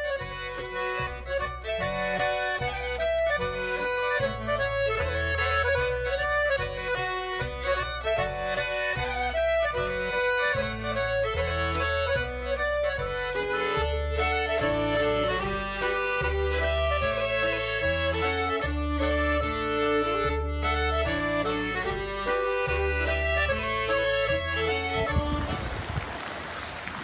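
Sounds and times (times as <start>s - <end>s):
stepping bass line: 0.0s - 26.0s
accordion: 0.0s - 26.2s
fiddle: 0.0s - 27.0s.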